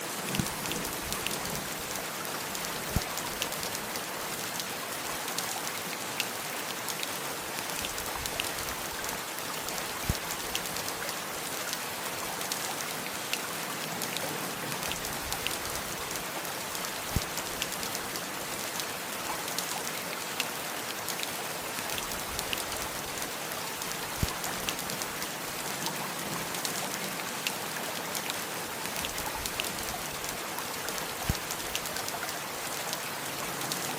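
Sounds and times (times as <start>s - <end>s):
steady rain patter: 0.0s - 33.9s.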